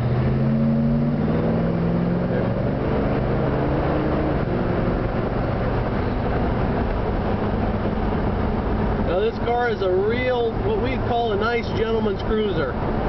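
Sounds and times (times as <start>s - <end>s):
car engine pulling under throttle: 0.0s - 13.0s.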